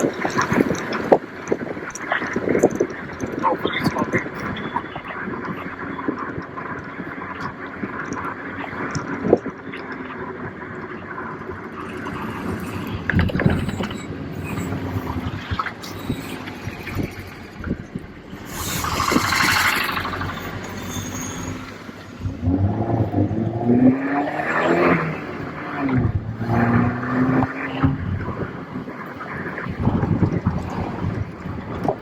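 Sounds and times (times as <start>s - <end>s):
car engine running while driving: 0.0s - 32.0s.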